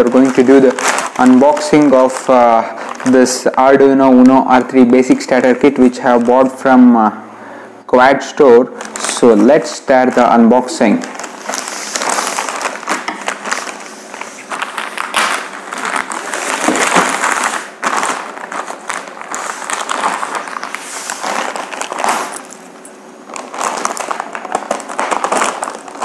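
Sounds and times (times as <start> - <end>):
plastic bag crinkling: 0.0 - 6.6, 8.6 - 26.0.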